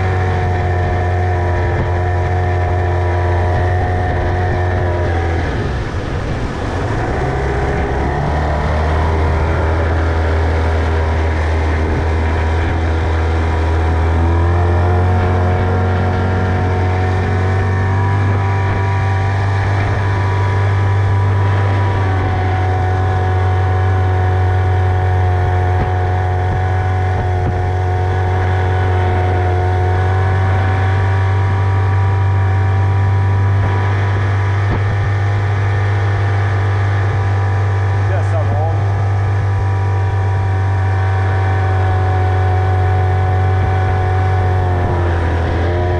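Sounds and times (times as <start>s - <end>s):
outboard motor running: 0.0s - 45.9s.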